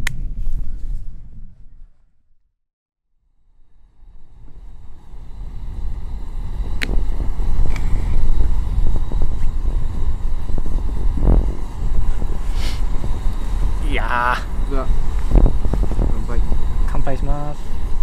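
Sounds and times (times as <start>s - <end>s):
wind buffeting microphone: 0.0s - 2.0s, 3.8s - 18.0s.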